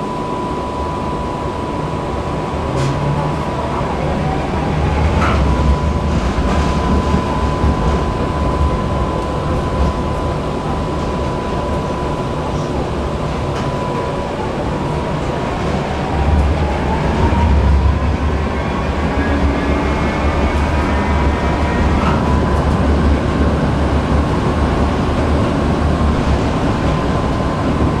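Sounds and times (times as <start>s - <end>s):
tram high whine: 0.0s - 28.0s
tram rumbling on rails: 0.0s - 28.0s.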